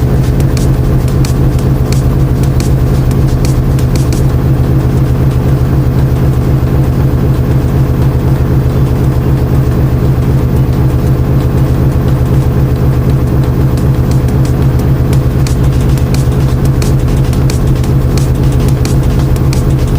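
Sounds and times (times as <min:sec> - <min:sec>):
washing machine motor humming: 0:00.0 - 0:19.9.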